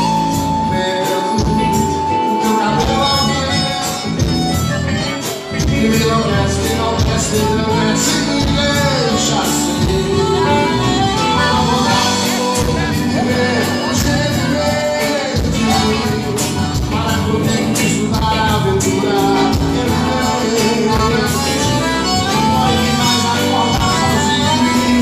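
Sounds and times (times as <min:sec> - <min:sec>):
live band playing: 0:00.0 - 0:25.0
man singing: 0:00.0 - 0:25.0.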